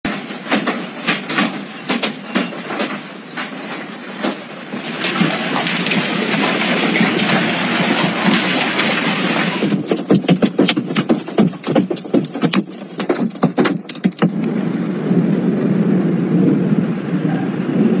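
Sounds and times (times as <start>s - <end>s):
hail clattering on hard surfaces: 0.1s - 15.8s.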